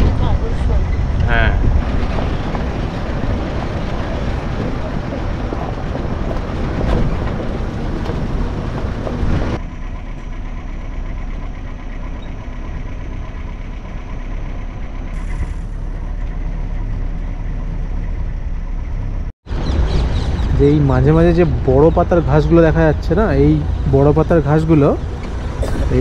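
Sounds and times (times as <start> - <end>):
jeep engine running: 0.0 - 26.0
tyre and road rumble: 0.0 - 26.0.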